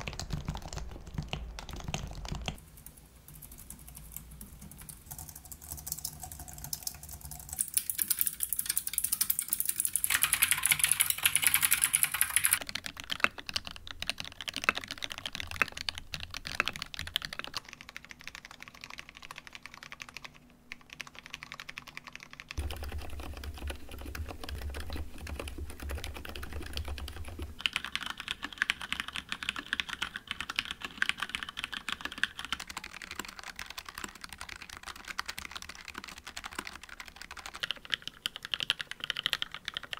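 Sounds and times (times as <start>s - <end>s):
typing on keyboards: 0.0s - 39.9s.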